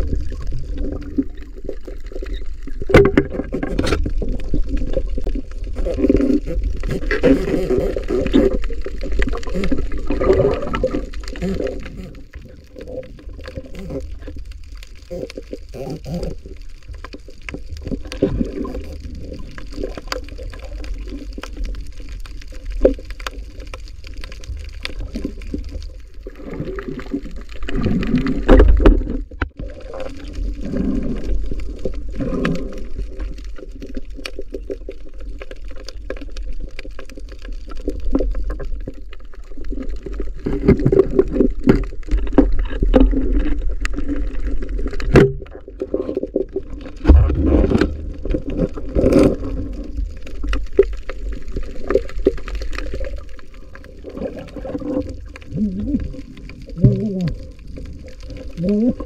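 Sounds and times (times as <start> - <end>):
underwater water rumble: 0.0 - 59.0.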